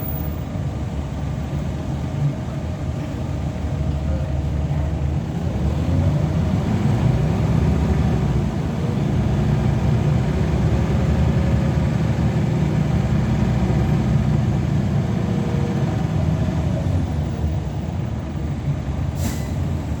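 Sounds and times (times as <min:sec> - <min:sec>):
bus diesel engine rumble: 0:00.0 - 0:20.0.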